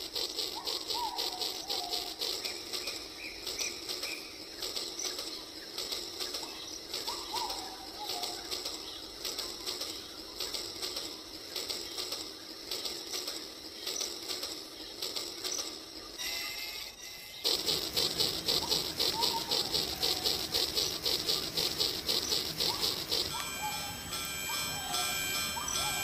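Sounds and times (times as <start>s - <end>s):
toy train motor clattering: 0.0s - 26.0s.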